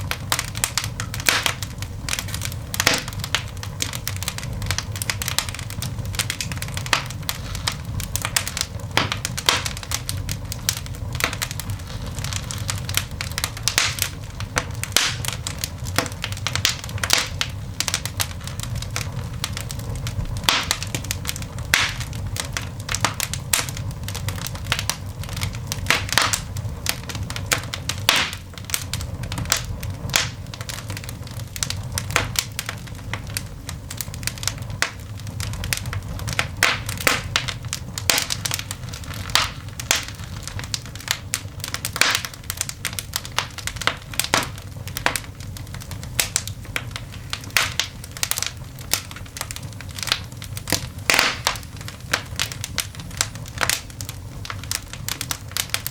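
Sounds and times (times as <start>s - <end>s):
coal fire snaps and pops: 0.0s - 55.9s
low fire rumble: 0.0s - 55.9s.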